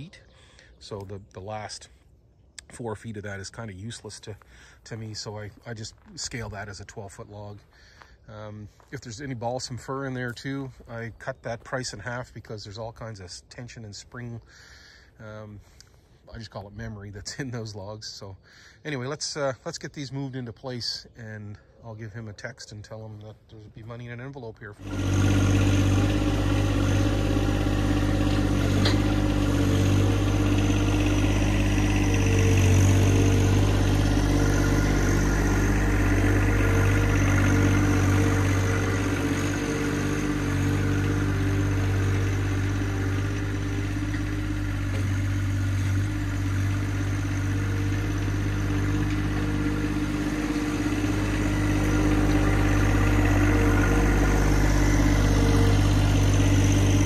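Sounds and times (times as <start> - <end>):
tractor diesel engine running: 2.6 - 14.6, 22.9 - 57.0.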